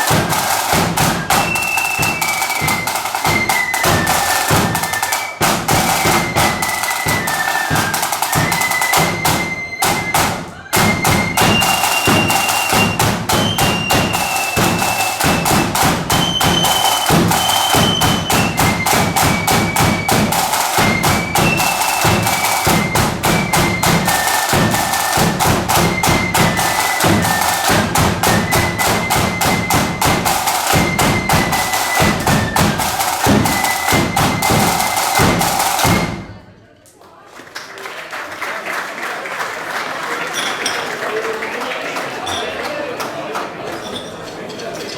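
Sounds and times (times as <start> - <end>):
flute melody: 0.0 - 36.4
snare and bass drumming: 0.0 - 36.4.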